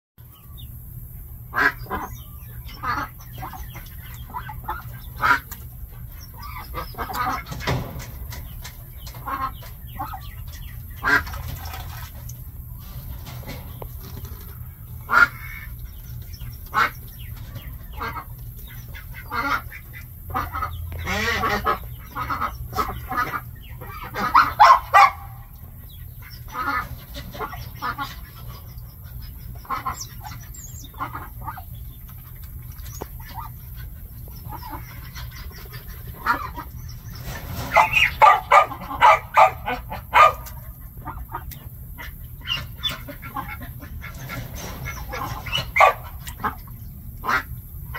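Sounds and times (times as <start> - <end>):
ducks quacking: 1.3 - 47.9.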